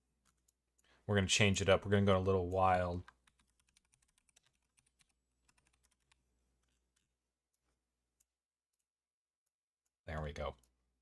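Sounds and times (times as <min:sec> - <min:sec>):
faint keyboard typing: 0:00.1 - 0:01.0, 0:02.5 - 0:10.8.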